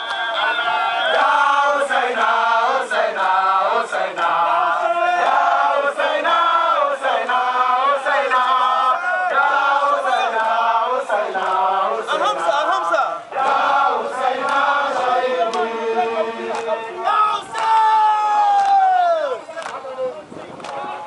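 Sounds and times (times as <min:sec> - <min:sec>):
men chanting in unison: 0:00.0 - 0:17.9
chanting through megaphones: 0:00.0 - 0:21.0.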